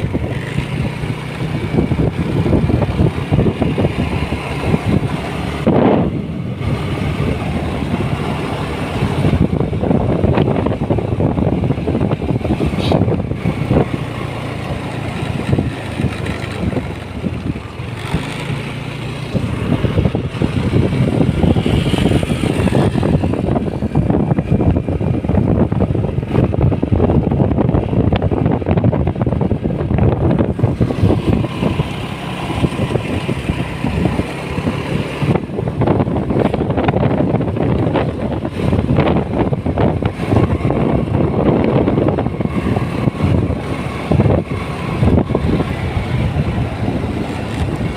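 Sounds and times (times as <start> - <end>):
motorcycle engine: 0.0 - 47.9
wind rumbling on microphone: 0.0 - 47.9.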